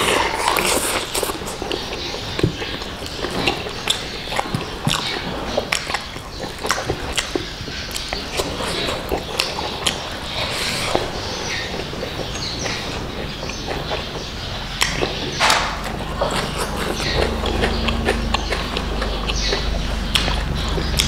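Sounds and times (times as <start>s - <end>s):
person chewing with lip smacks: 0.0s - 21.0s.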